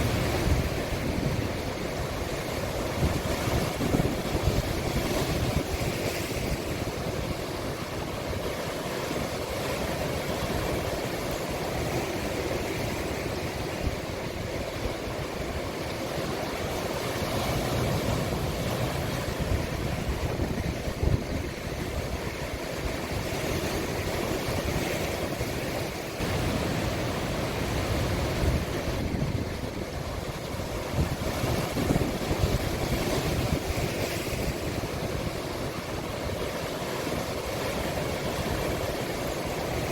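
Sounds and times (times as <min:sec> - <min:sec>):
wind on microphone: 0:00.0 - 0:09.4, 0:16.6 - 0:39.9
waves breaking on shore: 0:00.0 - 0:39.9.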